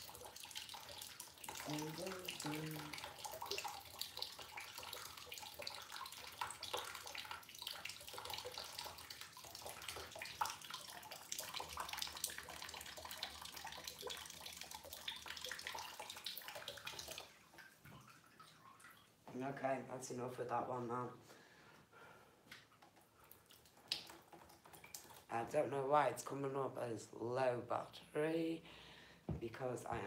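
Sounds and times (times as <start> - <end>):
aquarium water splashing: 0.0 - 21.1, 22.6 - 26.5.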